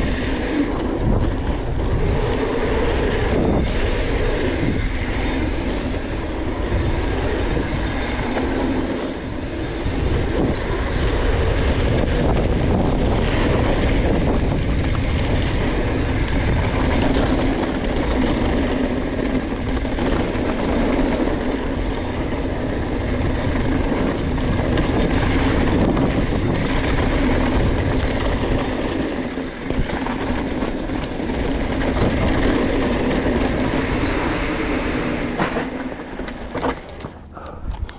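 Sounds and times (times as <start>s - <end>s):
bike chain rattling: 0.0s - 37.9s
bike tyres rumbling on gravel: 0.0s - 37.9s.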